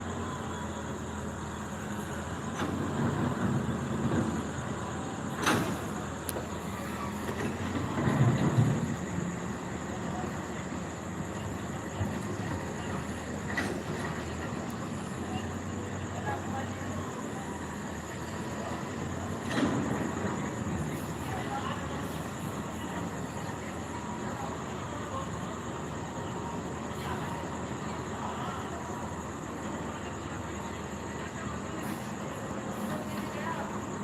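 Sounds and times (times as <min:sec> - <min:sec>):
heavy machinery rumble: 0:00.0 - 0:34.0.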